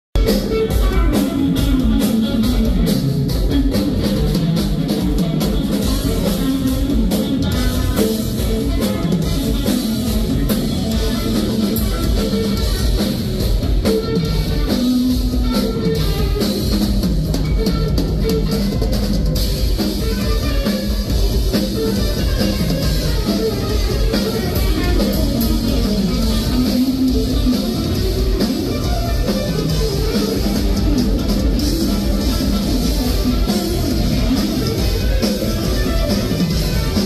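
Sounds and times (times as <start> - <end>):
drum kit: 0.1 - 37.0
bass line: 0.2 - 37.0
distorted electric guitar: 0.2 - 37.0.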